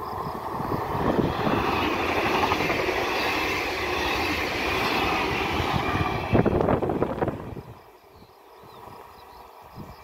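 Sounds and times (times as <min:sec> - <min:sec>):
train wheels rushing on rails: 0:00.0 - 0:10.0.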